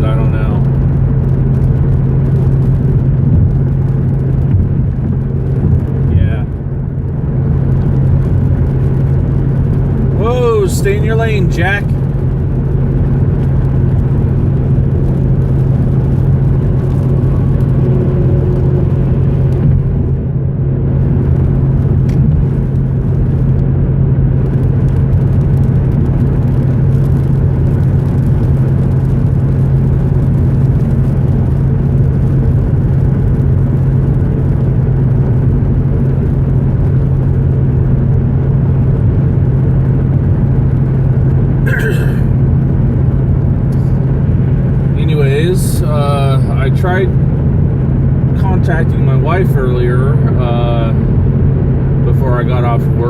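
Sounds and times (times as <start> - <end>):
car cabin engine and road drone: 0.0 - 53.0.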